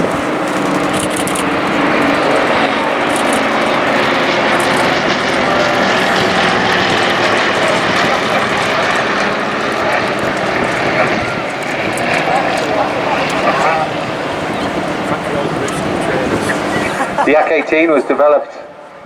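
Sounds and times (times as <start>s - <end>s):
propeller aircraft droning past: 0.0s - 19.0s.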